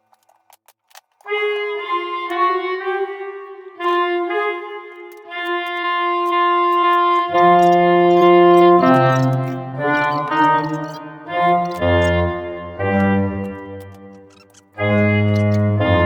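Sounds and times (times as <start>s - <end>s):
wind instrument melody: 1.3s - 16.0s.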